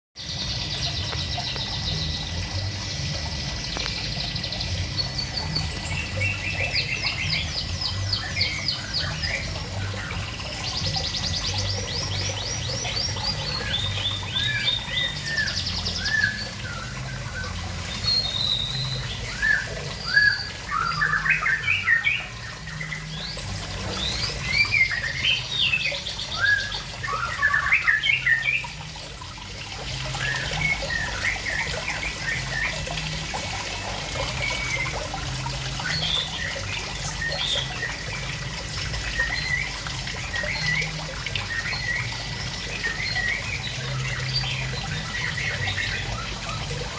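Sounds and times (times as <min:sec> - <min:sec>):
songbirds chirping: 0:00.2 - 0:46.9
water trickling: 0:00.2 - 0:46.9.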